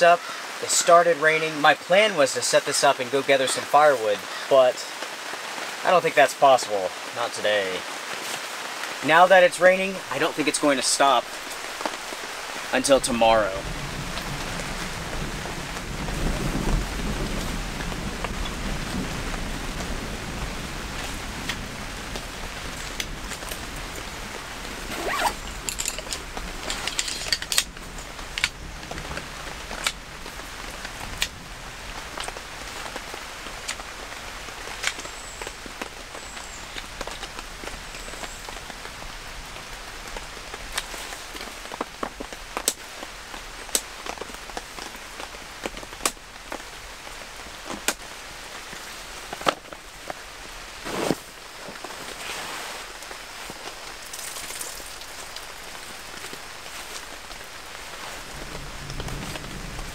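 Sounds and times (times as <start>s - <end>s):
rain on tent canopy: 0.0s - 59.9s.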